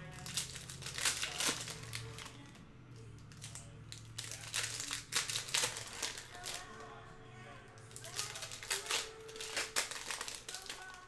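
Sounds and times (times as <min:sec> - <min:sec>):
card pack wrappers crinkling: 0:00.0 - 0:02.6, 0:03.3 - 0:06.9, 0:07.8 - 0:11.0.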